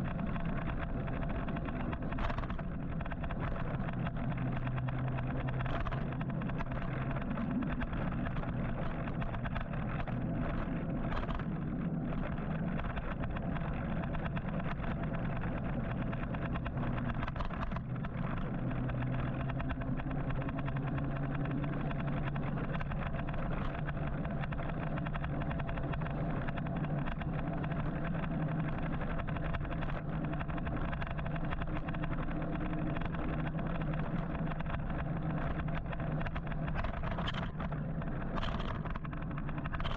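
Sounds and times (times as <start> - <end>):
electric motorcycle hum: 0.0 - 39.9.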